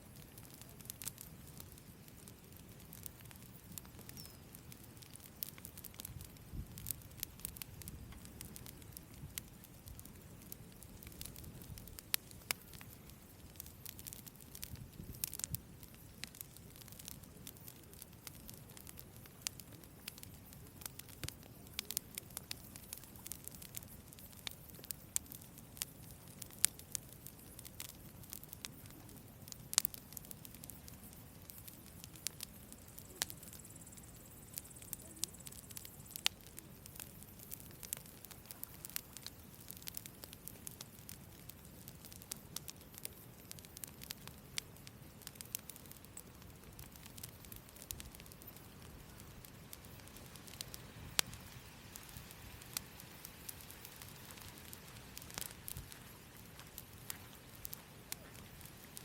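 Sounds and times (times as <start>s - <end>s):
campfire crackles and pops: 0.0s - 59.0s
low rush of flame: 0.0s - 59.0s.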